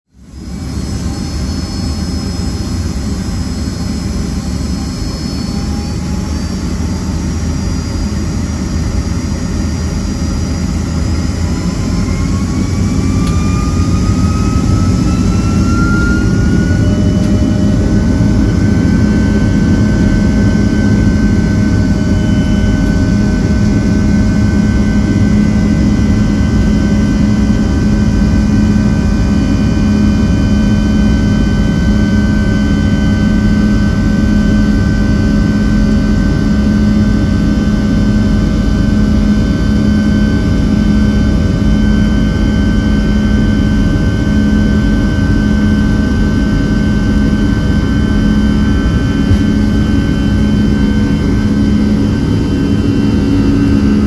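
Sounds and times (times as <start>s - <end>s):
engine whine rising in pitch: 0.1s - 54.0s
jet engines rumbling in cabin: 0.1s - 54.0s.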